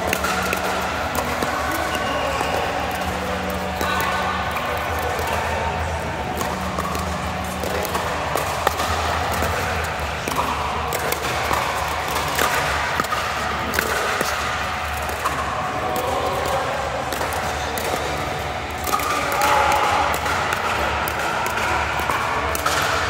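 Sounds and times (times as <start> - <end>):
paddles hitting plastic ball: 0.0 - 23.0.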